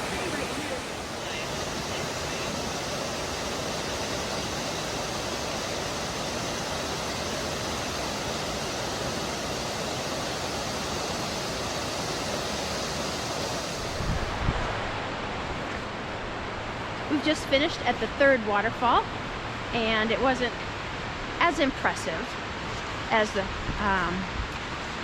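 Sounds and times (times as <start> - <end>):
waterfall rushing: 0.0 - 23.3.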